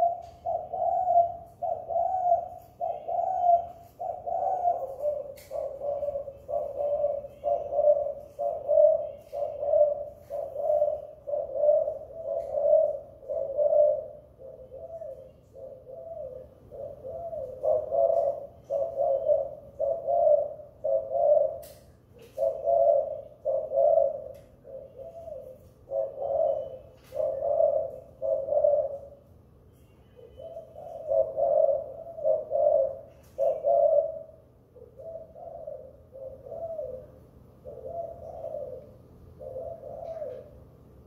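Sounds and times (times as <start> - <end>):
doves cooing: 0.0 - 41.0.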